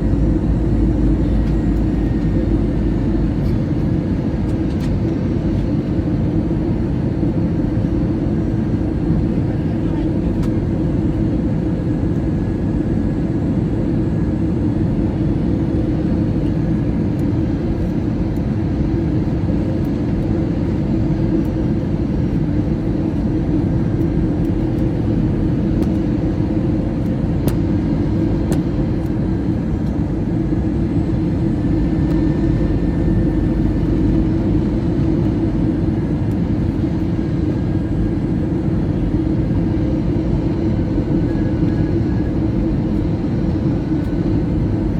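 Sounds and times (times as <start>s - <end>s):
airliner engines droning in cabin: 0.0s - 44.9s.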